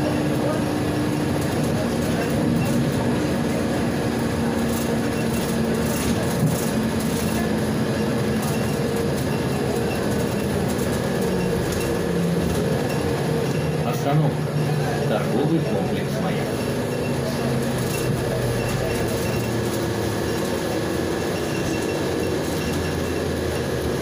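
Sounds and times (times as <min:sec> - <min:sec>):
bus engine hum: 0:00.0 - 0:24.0
road and tyre noise: 0:00.0 - 0:24.0.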